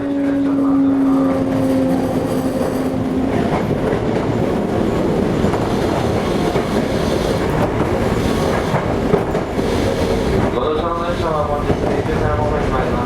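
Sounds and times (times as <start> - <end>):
train motor tone: 0.0 - 11.2
train wheels rolling on rail: 0.0 - 13.0
clacks over rail joints: 1.4 - 13.0.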